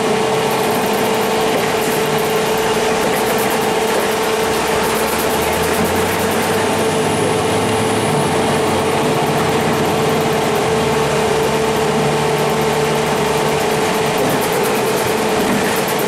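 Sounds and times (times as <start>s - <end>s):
diesel engine running: 0.0s - 16.0s
steady whine: 0.0s - 16.0s.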